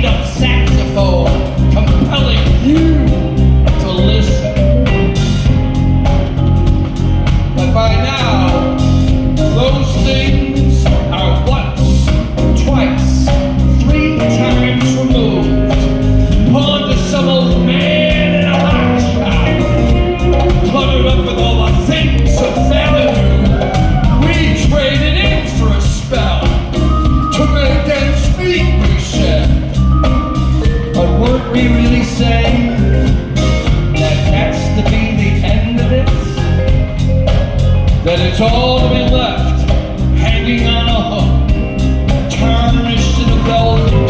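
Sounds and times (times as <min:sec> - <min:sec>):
heavy bass: 0:00.0 - 0:44.0
live band playing: 0:00.0 - 0:44.0
steady drum beat: 0:00.0 - 0:44.0.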